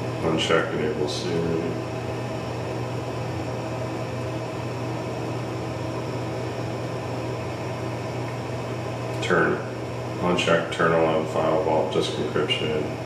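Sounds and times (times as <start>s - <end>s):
fan hum and hiss: 0.0s - 13.0s.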